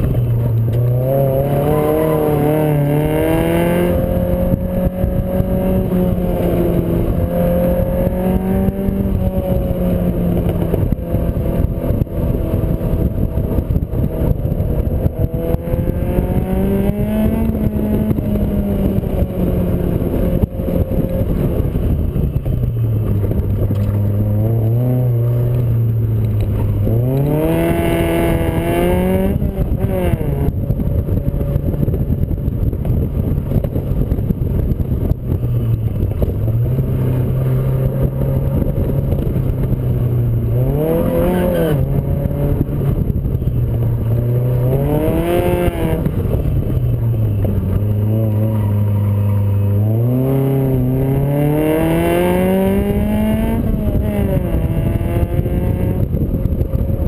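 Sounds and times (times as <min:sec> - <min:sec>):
car engine revving: 0:00.0 - 0:57.0
wind rush: 0:00.0 - 0:57.0.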